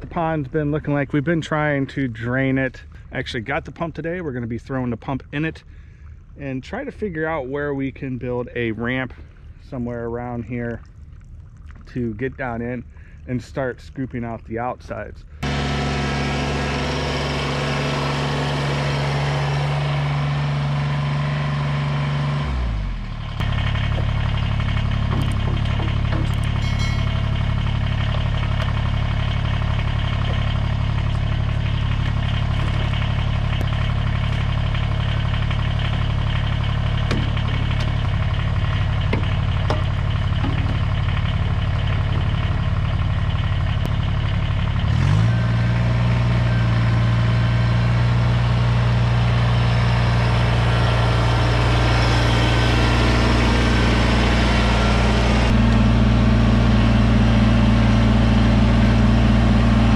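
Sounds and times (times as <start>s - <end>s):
tractor diesel engine idling: 0.0s - 10.8s, 14.9s - 59.9s.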